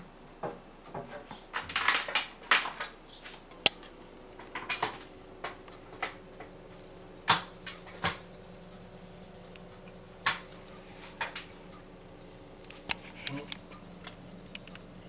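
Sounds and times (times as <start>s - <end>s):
faint steady hum: 0.0s - 15.0s
fan parts clicking and clattering: 0.0s - 15.0s.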